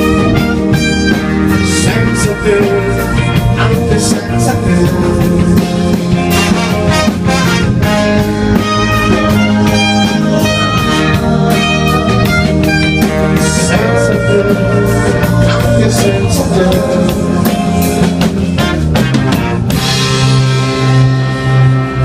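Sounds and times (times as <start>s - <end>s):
drum kit: 0.0s - 22.0s
electric guitar: 0.0s - 22.0s
rock band playing: 0.0s - 22.0s.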